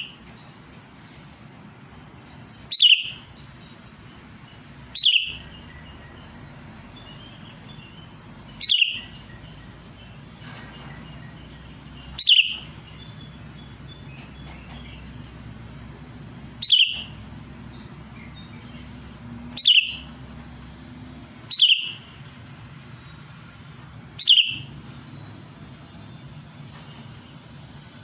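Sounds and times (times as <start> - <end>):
faint bird chirps: 2.5 - 20.2, 21.0 - 22.3, 24.2 - 28.0.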